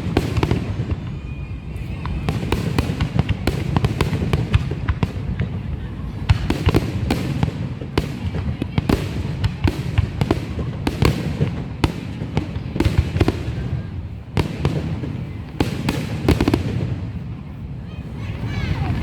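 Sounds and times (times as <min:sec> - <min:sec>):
fireworks banging: 0:00.0 - 0:17.5.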